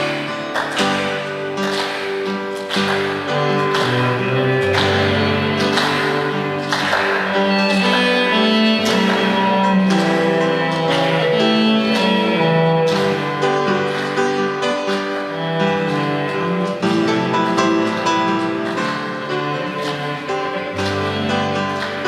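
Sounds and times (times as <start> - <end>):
piano chords: 0.0 - 22.0
bowed cello notes: 1.2 - 22.0.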